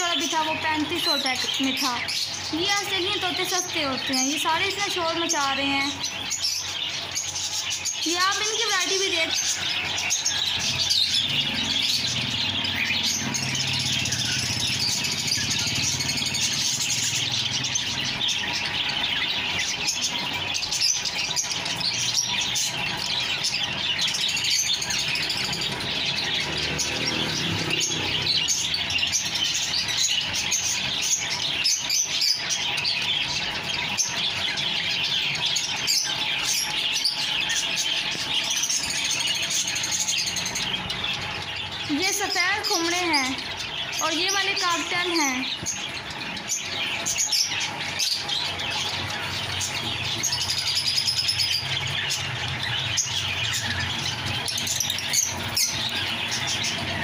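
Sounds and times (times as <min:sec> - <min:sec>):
parrots chirping and chattering: 0:00.0 - 0:57.0.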